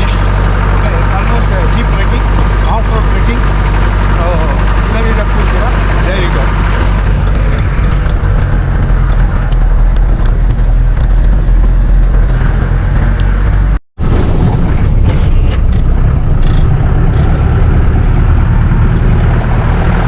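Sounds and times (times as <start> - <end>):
jeep engine running: 0.0 - 20.0
knocks and rattles over bumps: 0.0 - 20.0.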